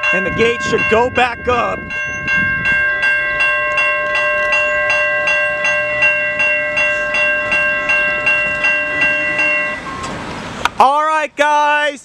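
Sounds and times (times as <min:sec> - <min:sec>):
steady ringing tone: 0:00.0 - 0:10.1
railroad crossing bells ringing: 0:00.0 - 0:11.2.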